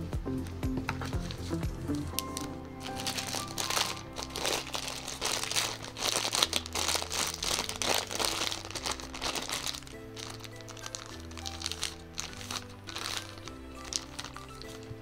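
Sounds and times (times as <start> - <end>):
soft background music: 0.0 - 15.0
plastic bag crinkling: 1.0 - 15.0.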